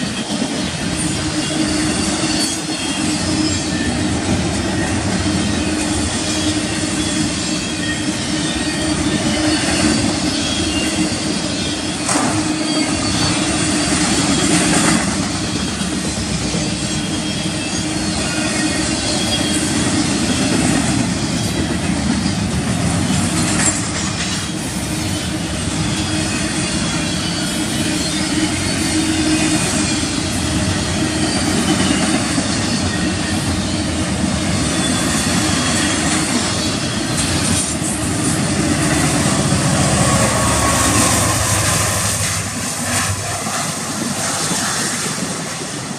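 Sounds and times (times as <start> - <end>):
faint high wheel squeal: 0.0 - 14.7, 15.3 - 22.4, 23.5 - 45.3
train wheels rumbling on rail: 0.0 - 45.9.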